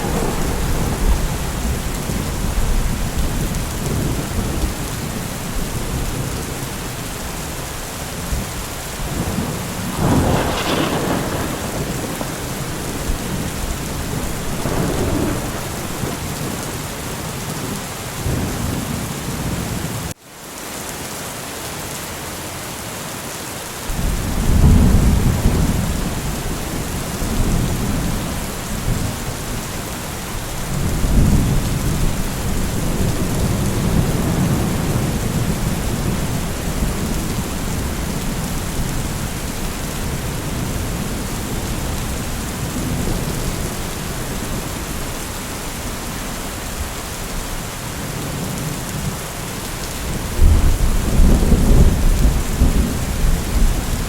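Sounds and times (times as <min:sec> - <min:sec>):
low rolling thunder: 0:00.0 - 0:07.5, 0:08.2 - 0:17.3, 0:23.9 - 0:49.2, 0:49.8 - 0:54.0
heavy rain: 0:00.0 - 0:54.0.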